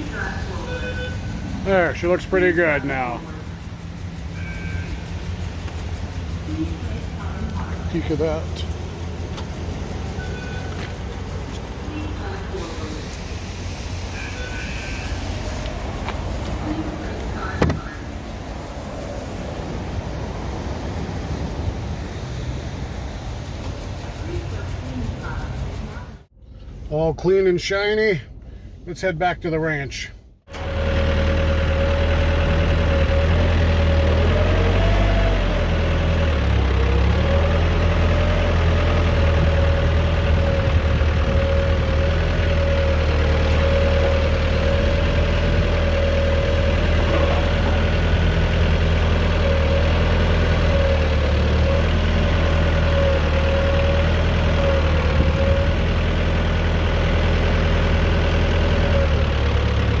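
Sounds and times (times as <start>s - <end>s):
vehicle engine running steadily: 0.0s - 60.0s.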